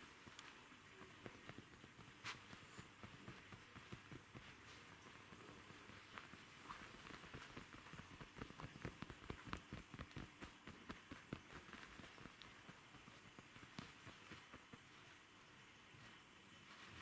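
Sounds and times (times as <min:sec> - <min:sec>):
paws tapping and scuffling: 0:00.0 - 0:17.0.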